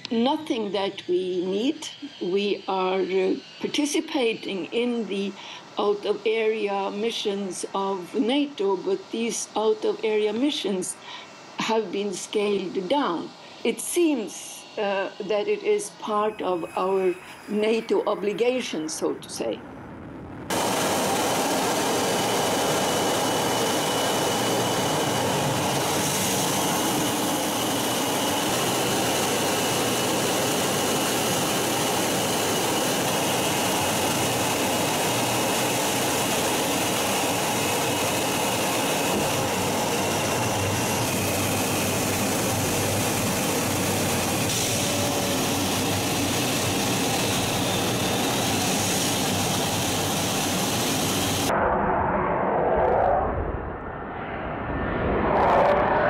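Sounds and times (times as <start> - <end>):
jet engine roar: 0.0 - 7.7, 12.7 - 56.0
high engine whine: 0.0 - 56.0.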